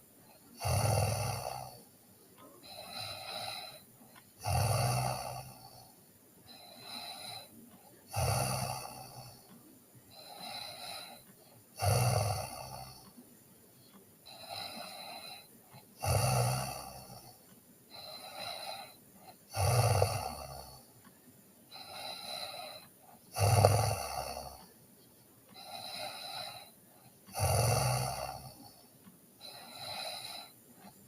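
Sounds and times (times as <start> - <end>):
person snoring: 0.5 - 1.9, 2.5 - 5.9, 6.5 - 9.5, 10.1 - 13.2, 14.3 - 20.9, 21.7 - 24.7, 25.5 - 28.8, 29.4 - 31.0.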